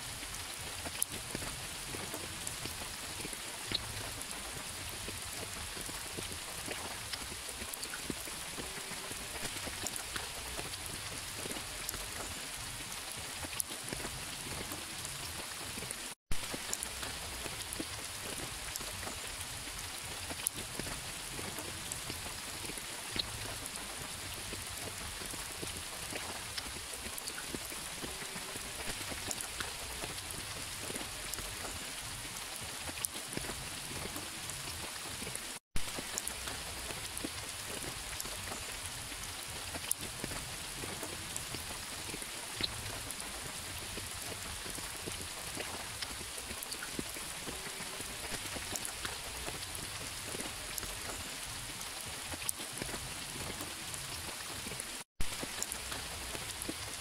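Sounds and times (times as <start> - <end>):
steady rain falling: 0.0 - 57.0
raindrops ticking sharply: 0.1 - 57.0.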